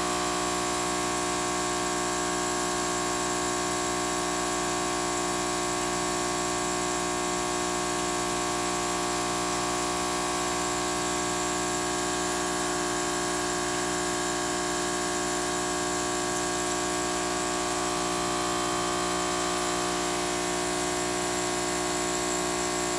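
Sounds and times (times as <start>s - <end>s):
aquarium pump humming: 0.0s - 22.9s.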